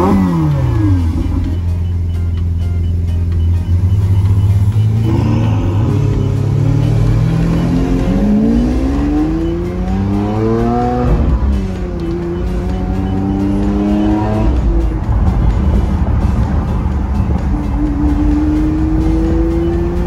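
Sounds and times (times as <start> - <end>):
car engine accelerating from inside: 0.0 - 1.6, 3.7 - 20.0.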